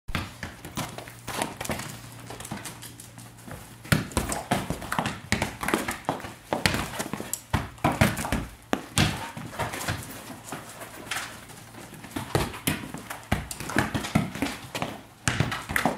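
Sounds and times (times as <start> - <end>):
balls bouncing off floor and wall: 0.1 - 15.9
dog paws clattering on tiles: 0.2 - 15.9.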